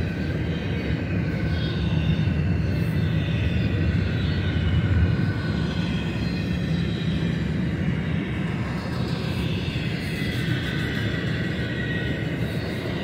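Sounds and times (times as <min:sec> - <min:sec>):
faint high whining tones: 0:00.0 - 0:13.0.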